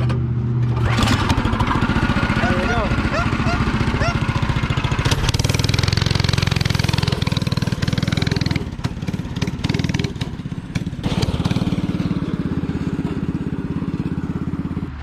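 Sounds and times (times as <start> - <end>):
go-kart engine running hard: 0.0 - 15.0.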